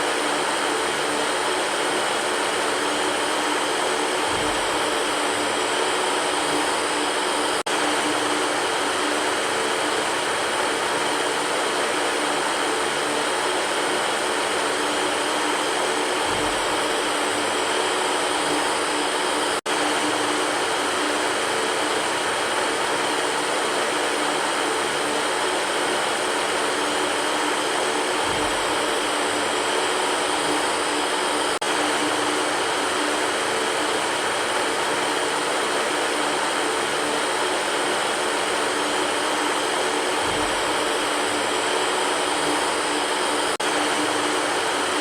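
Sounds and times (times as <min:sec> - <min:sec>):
electric fan running: 0:00.0 - 0:45.0.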